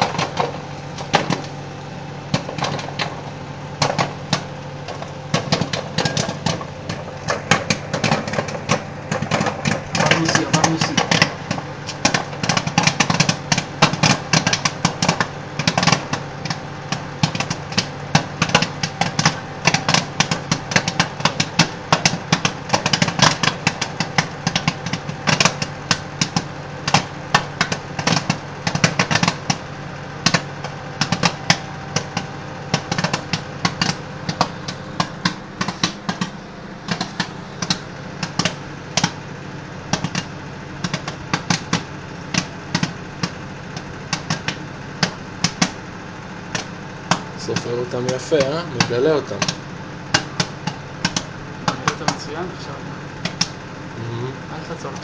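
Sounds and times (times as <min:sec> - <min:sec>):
microwave oven hum: 0:00.0 - 0:55.0
popcorn popping: 0:00.0 - 0:55.0.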